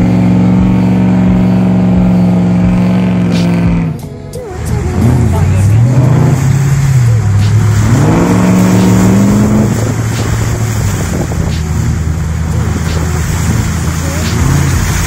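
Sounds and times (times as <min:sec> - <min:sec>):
vehicle engine revving: 0:00.0 - 0:15.0
water splashing: 0:00.0 - 0:15.0.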